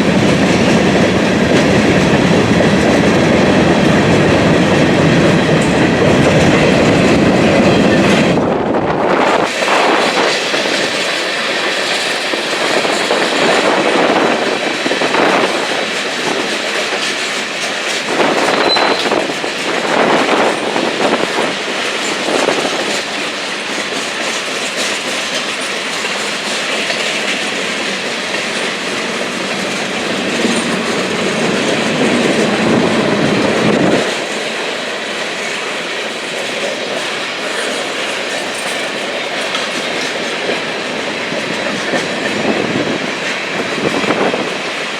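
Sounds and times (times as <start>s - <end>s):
train wheels clicking over rail joints: 0.0s - 44.9s.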